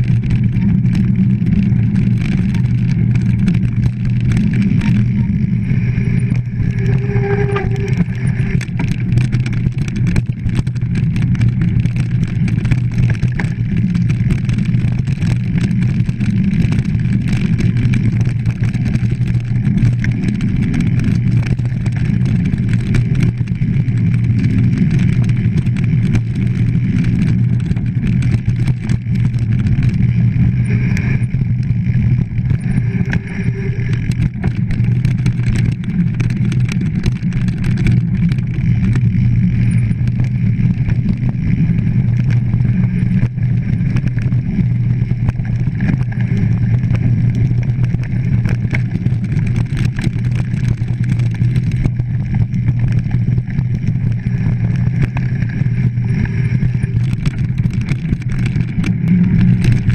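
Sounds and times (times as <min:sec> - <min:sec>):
bike rattling and knocking: 0:00.0 - 0:59.9
wind and rolling rumble: 0:00.0 - 0:59.9.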